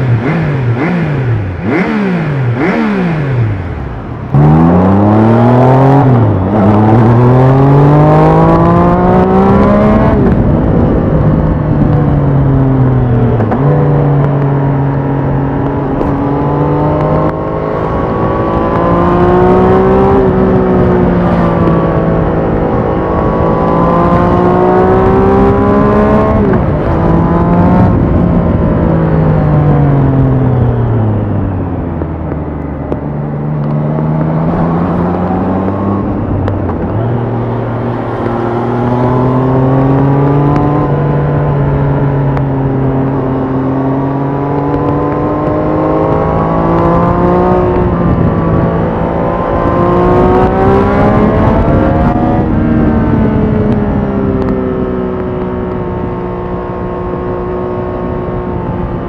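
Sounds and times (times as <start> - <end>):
motorcycle engine running: 0.0 - 9.2, 9.8 - 59.0.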